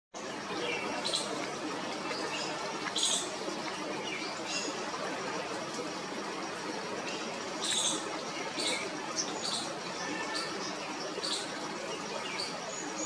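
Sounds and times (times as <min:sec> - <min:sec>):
outdoor background hiss: 0:00.2 - 0:13.0.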